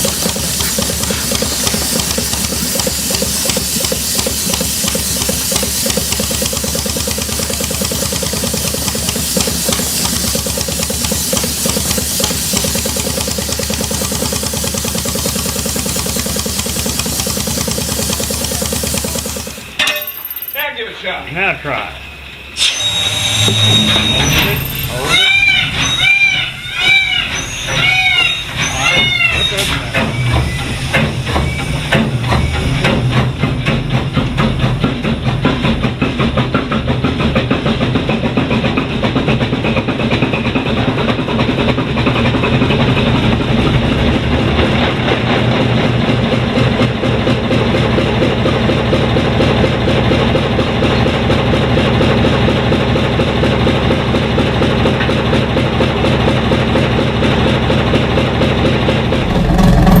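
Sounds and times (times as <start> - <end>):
engine running steadily: 0.0 - 20.6, 23.3 - 60.0.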